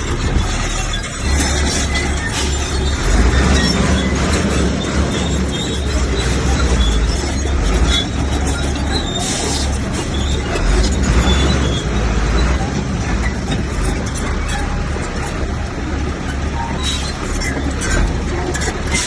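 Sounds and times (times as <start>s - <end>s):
bulldozer diesel engine under load: 0.0s - 19.0s
steel tracks rattling and squealing: 0.0s - 19.0s.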